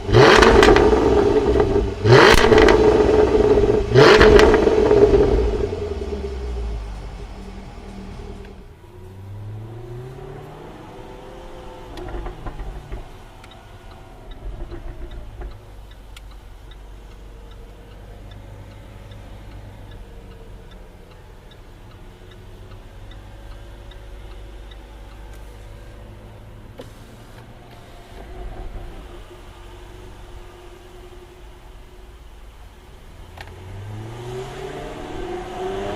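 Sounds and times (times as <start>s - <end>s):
light regular ticking: 0.0s - 34.8s
car engine pulling hard: 0.0s - 35.9s
exhaust crackles: 0.0s - 35.9s.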